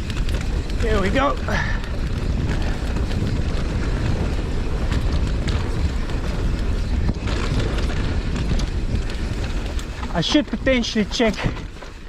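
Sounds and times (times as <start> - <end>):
bike clicking and knocking: 0.0 - 12.0
wind rushing over microphone: 0.0 - 12.0.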